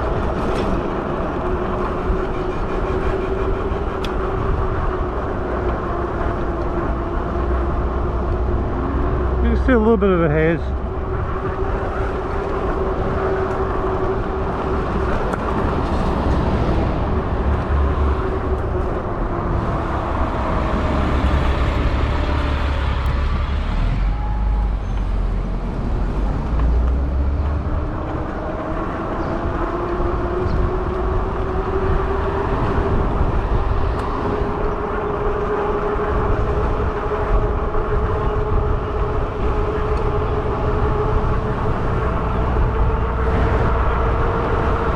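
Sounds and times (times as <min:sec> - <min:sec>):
wind and tyre rumble: 0:00.0 - 0:44.9.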